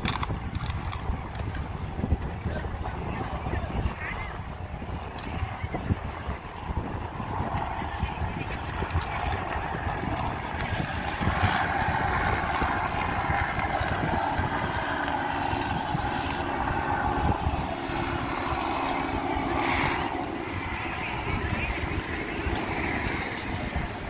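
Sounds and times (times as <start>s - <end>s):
engine drone: 0.0s - 24.0s
wind rumble on microphone: 0.0s - 24.0s.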